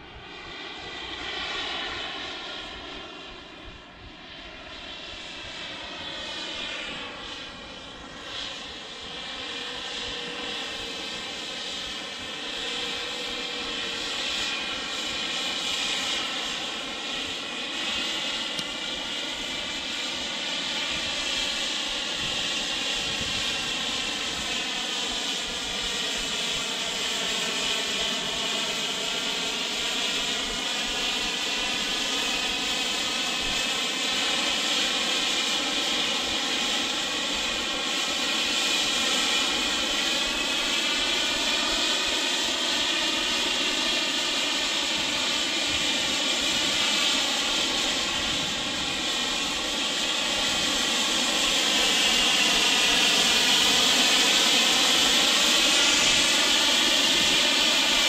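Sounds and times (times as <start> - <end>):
model jet engine whine: 0.0 - 58.0.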